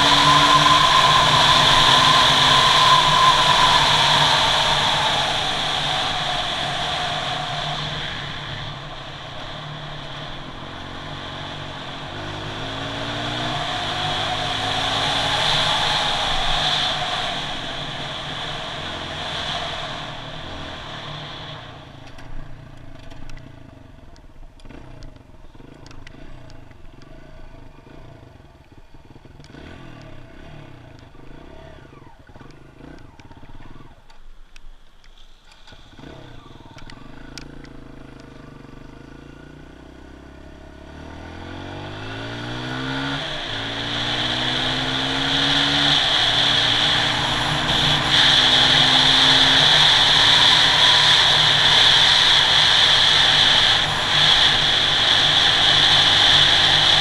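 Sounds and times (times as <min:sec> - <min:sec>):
dirt bike engine accelerating: 0:00.0 - 0:34.3, 0:35.4 - 0:57.0.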